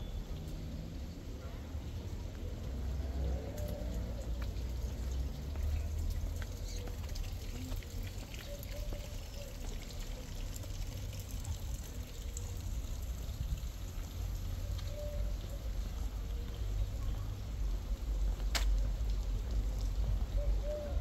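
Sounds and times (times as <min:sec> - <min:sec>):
water splashing from fountain: 0:00.0 - 0:21.0.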